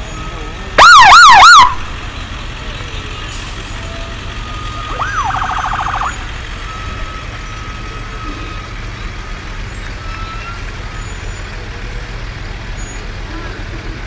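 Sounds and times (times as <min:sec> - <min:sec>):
vehicle engines rumbling low: 0:00.0 - 0:14.0.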